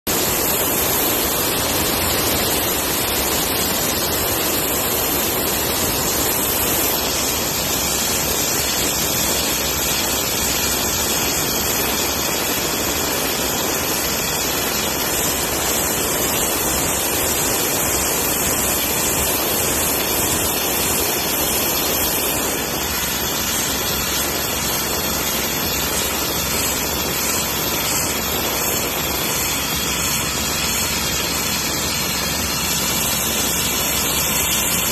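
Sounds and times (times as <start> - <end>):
abrasive blasting hiss: 0.1 - 34.9.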